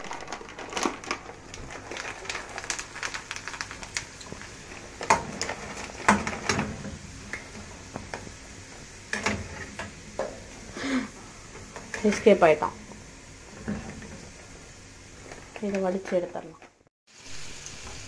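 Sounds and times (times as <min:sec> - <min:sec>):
snacks crackling in hot oil: 0:00.0 - 0:18.0.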